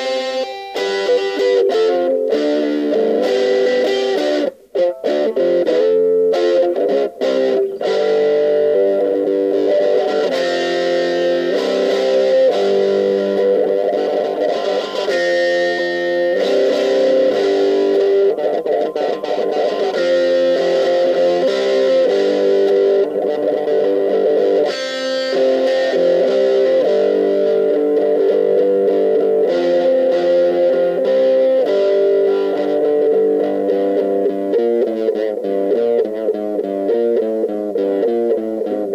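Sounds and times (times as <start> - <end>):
overdriven electric guitar riffs: 0.0 - 38.9.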